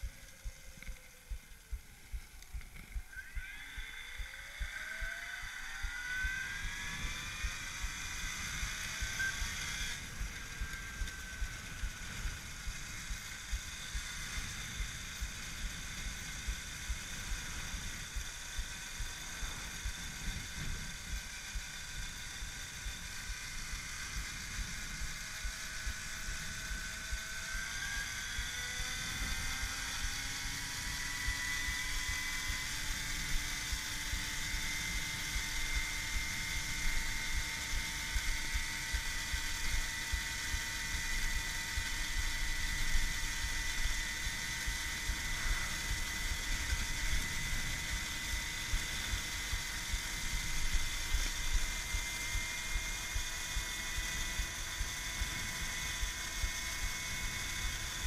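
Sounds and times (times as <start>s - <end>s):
electric motor whining: 0.0s - 58.0s
wind and road noise: 0.0s - 58.0s.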